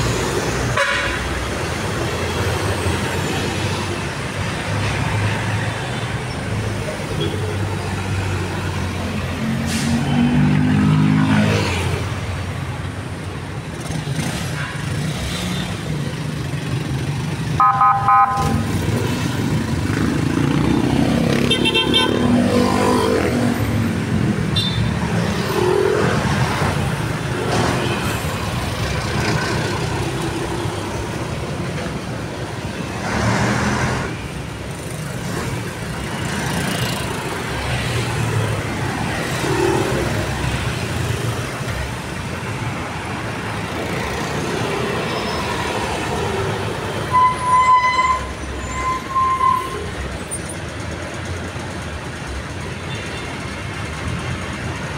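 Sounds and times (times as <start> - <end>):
vehicles driving past: 0.0 - 54.9.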